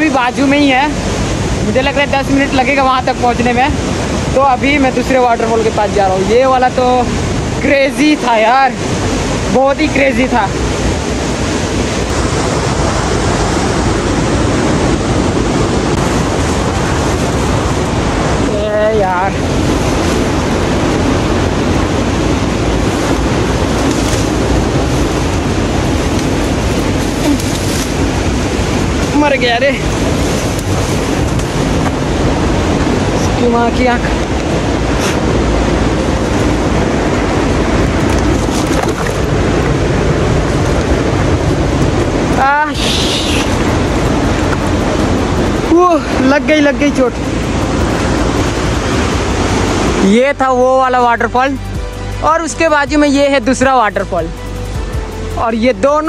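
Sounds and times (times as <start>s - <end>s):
waterfall rushing: 0.0s - 56.0s
wind buffeting microphone: 0.0s - 56.0s.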